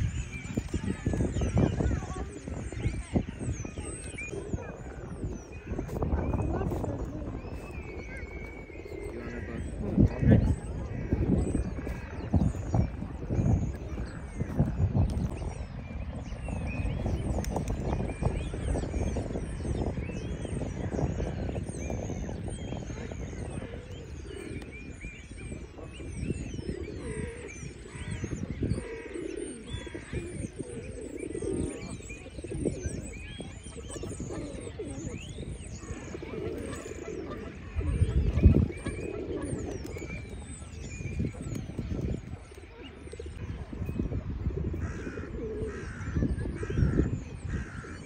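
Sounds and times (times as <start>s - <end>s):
birds chirping and tweeting: 0.0s - 48.0s
pigeons cooing: 0.0s - 48.0s.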